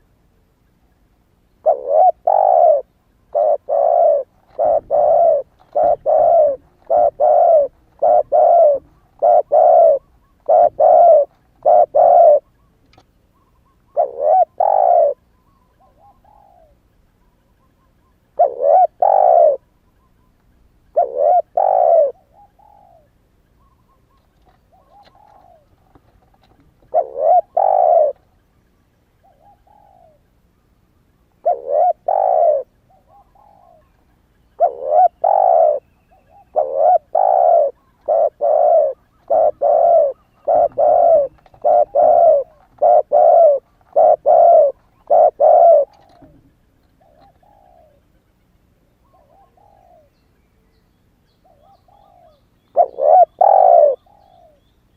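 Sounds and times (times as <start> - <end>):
dove cooing: 1.6 - 16.9, 18.4 - 19.7, 20.9 - 28.3, 29.2 - 30.2, 31.4 - 48.1, 49.0 - 50.2, 51.4 - 54.7.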